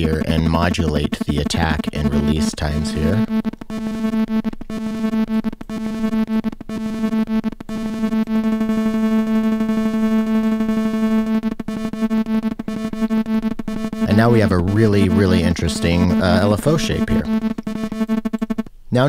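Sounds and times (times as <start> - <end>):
synthesizer tone with rapid flutter: 0.0 - 18.7.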